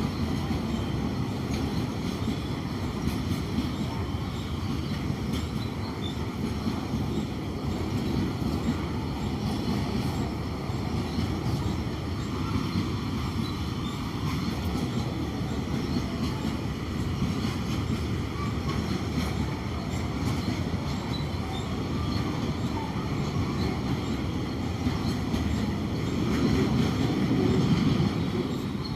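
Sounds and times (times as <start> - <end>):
diesel train rumbling: 0.0 - 28.9.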